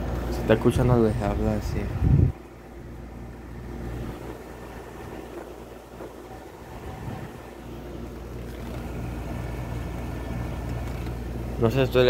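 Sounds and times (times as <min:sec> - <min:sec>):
dehumidifier running: 0:00.0 - 0:12.0.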